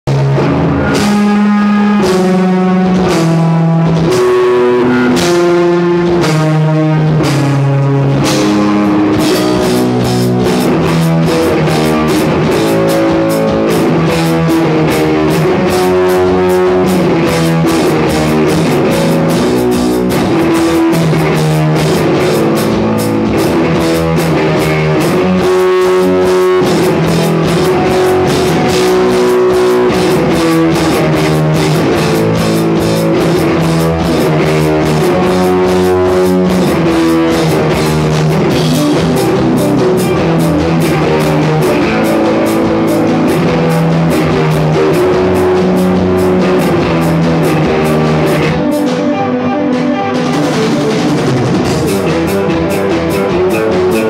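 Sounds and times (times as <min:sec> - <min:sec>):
drum kit playing: 0:00.0 - 0:54.0
electric guitar chords: 0:00.0 - 0:54.0.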